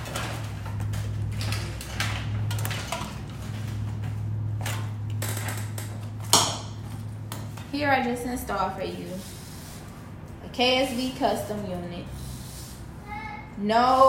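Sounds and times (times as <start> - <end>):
rustling and scraping handling noises: 0.0 - 12.9.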